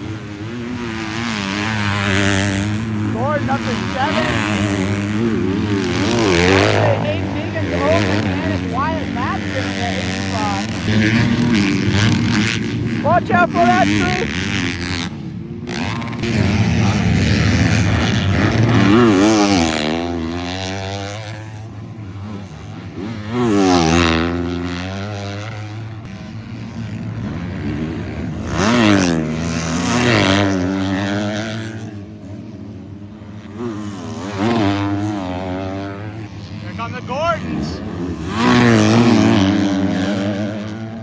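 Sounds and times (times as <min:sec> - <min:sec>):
drone of bikes on track: 0:00.0 - 0:41.0
motocross bikes racing past: 0:00.0 - 0:41.0.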